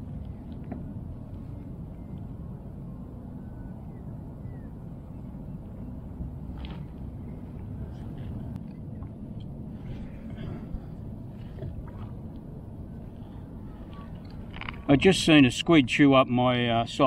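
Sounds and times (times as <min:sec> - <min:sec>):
wind and water rumbling: 0:00.0 - 0:17.0.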